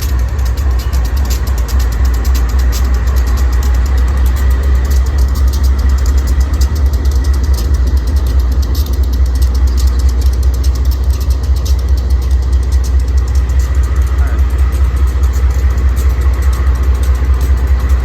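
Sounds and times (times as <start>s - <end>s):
diesel locomotive engine idling: 0.0s - 18.0s.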